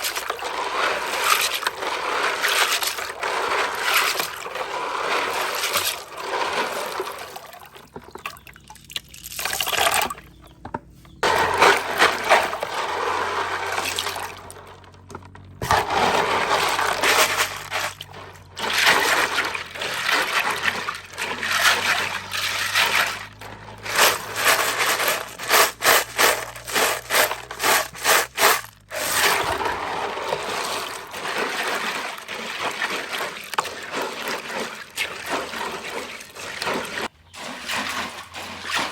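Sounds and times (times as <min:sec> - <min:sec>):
water sloshing and splashing: 0:00.0 - 0:38.9.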